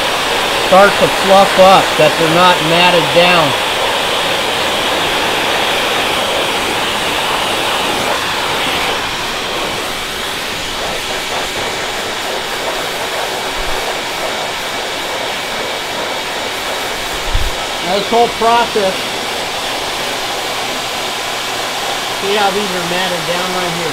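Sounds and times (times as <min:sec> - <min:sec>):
air blower rushing: 0:00.0 - 0:23.9.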